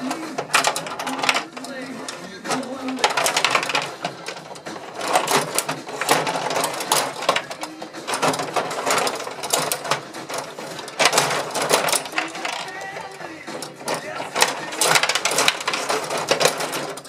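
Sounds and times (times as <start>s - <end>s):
control rods clattering: 0.0s - 17.0s
plastic players clacking: 0.0s - 17.0s.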